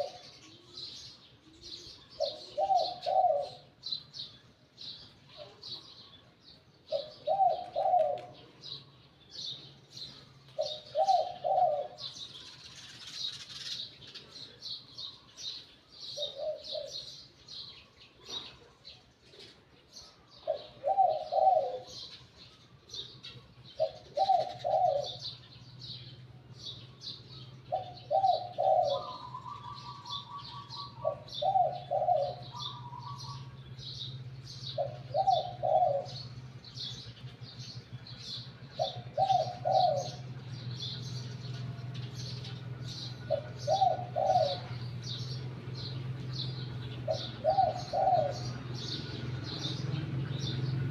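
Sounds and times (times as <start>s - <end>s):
dove cooing: 0.0s - 50.9s
small birds chirping: 0.0s - 50.9s.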